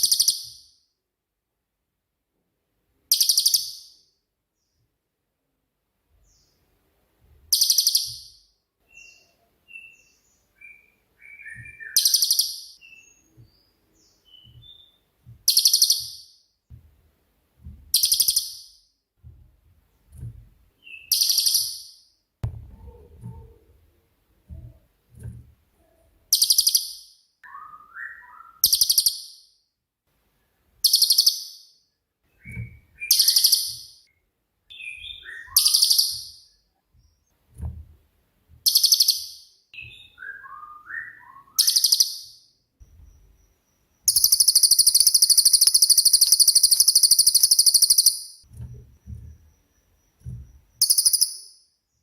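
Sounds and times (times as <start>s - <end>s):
songbird chirping and trilling: 0.0s - 0.9s, 3.0s - 4.9s, 6.1s - 16.8s, 17.9s - 19.0s, 19.8s - 29.7s, 30.4s - 37.5s, 38.5s - 52.0s.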